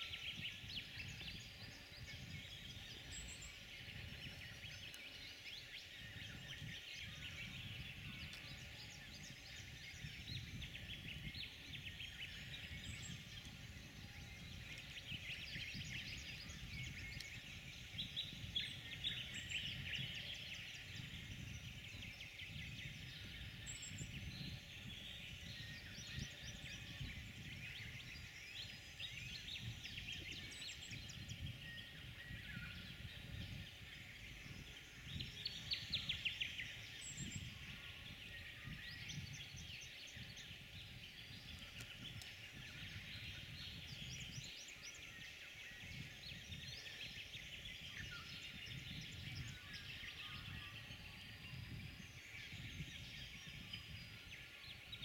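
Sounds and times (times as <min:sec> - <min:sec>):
wild birds chirping and trilling: 0:00.0 - 0:55.0.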